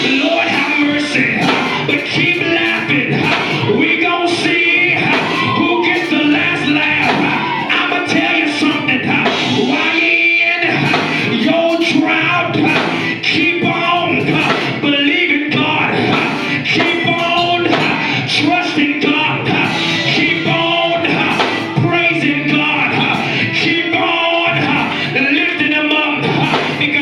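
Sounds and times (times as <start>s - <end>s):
gospel singing over a beat: 0.0s - 27.0s.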